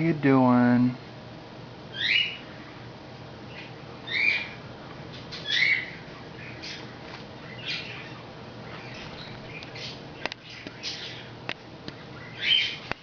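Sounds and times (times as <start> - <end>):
pet bird chirping: 1.9 - 13.0.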